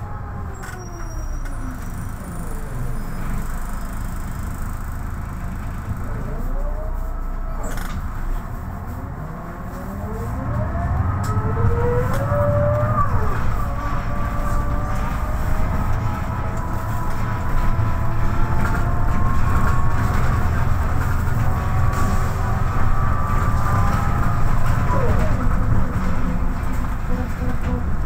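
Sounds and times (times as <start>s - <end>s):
bus engine accelerating: 0.0s - 28.0s
drivetrain whine: 0.0s - 28.0s.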